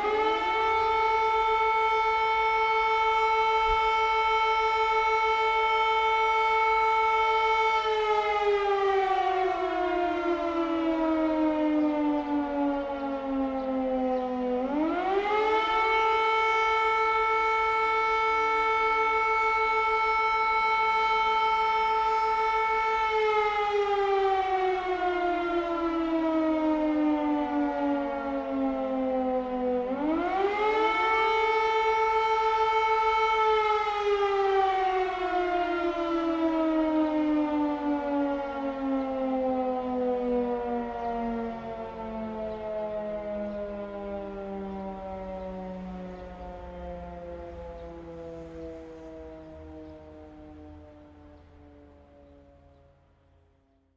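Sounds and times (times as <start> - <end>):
air raid siren wailing: 0.0 - 53.9.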